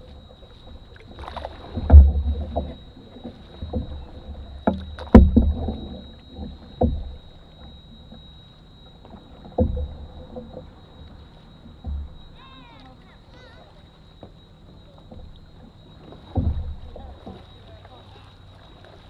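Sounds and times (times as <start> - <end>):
paddle knocking canoe hull: 0.0 - 8.3, 8.9 - 19.0
faint water noise: 0.0 - 19.0.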